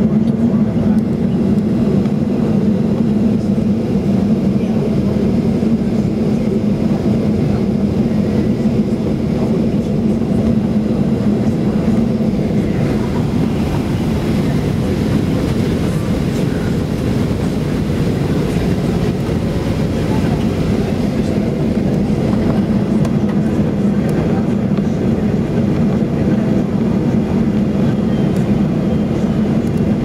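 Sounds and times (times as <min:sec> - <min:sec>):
jet engines humming: 0:00.0 - 0:30.0
wheels rumbling on taxiway: 0:00.0 - 0:30.0.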